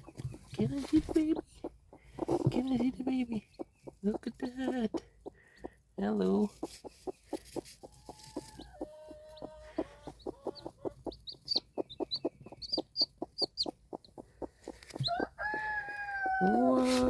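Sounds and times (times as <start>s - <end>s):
chick peeping: 0.0s - 17.0s
hen clucking: 0.0s - 17.0s.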